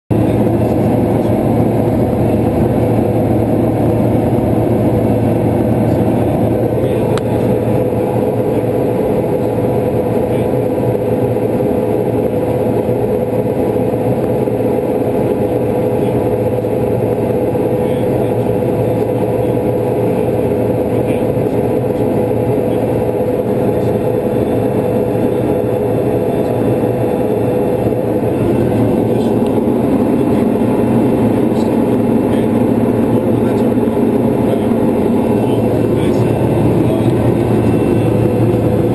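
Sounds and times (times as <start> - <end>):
propeller plane engine drone: 0.1 - 38.9.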